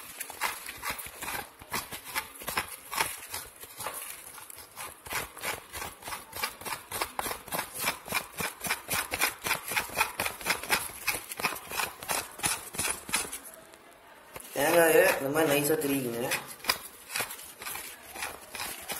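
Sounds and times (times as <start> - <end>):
coconut being chewed crunchily: 0.0 - 13.8, 14.4 - 18.9.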